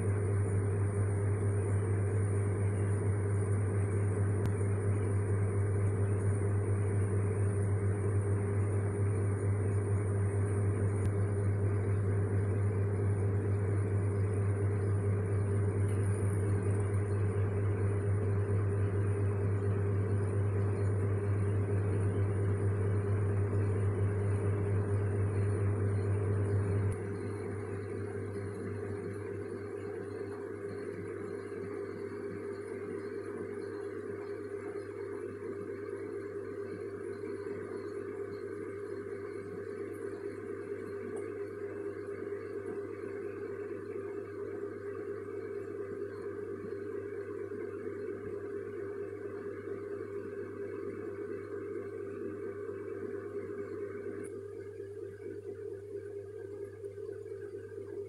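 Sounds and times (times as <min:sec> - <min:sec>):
mechanical hum and whir: 0:00.0 - 0:58.0.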